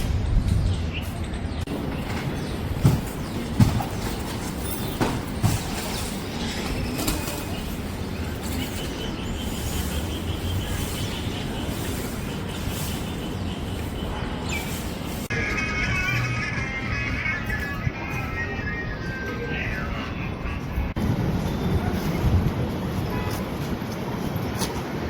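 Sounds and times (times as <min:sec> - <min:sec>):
distant traffic rumble: 0:00.0 - 0:25.0.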